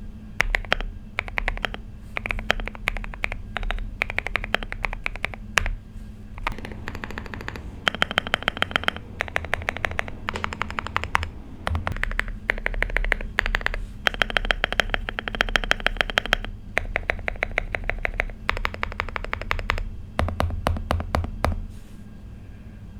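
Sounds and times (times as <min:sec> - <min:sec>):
typing on mechanical keyboard: 0:00.4 - 0:05.8, 0:06.4 - 0:21.7.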